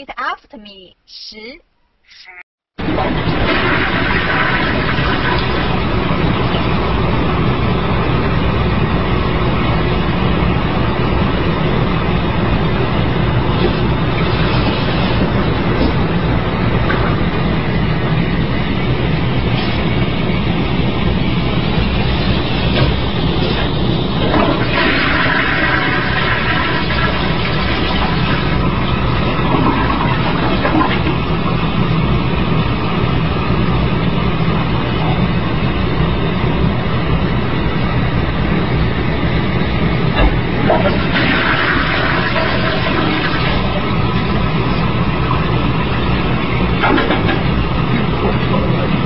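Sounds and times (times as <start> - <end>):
toilet flushing: 2.8 - 49.0.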